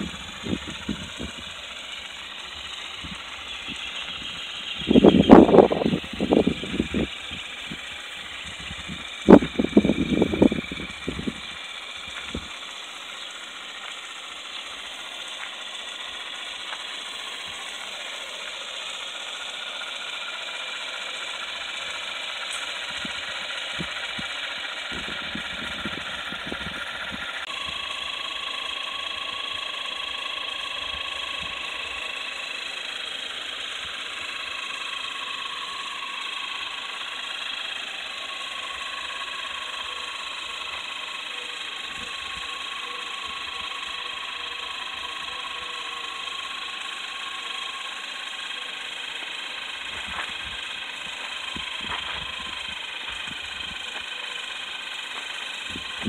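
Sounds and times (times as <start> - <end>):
small electric motors whining: 0.0 - 56.0.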